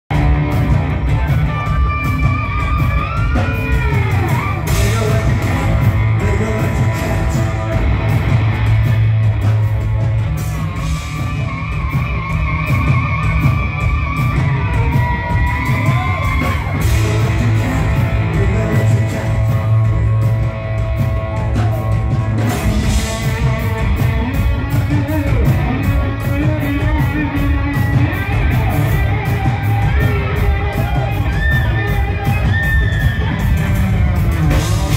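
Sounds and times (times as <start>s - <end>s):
electric bass: 0.0s - 34.9s
drum hits: 0.1s - 34.9s
electric guitar warbling lines: 0.1s - 34.9s.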